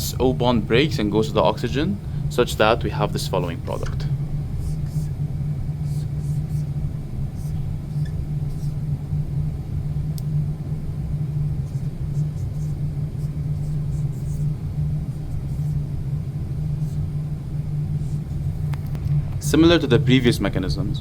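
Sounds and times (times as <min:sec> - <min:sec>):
low rumbling hum: 0:00.0 - 0:21.0.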